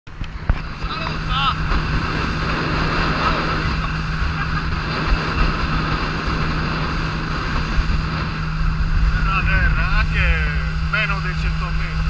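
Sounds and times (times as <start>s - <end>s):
outboard motor running: 0.1s - 12.0s
water rushing along hull: 0.1s - 12.0s
wind buffeting microphone: 0.1s - 12.0s.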